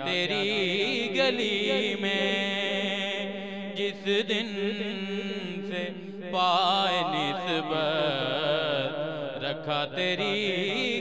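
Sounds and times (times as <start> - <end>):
man singing into microphone: 0.0 - 11.0.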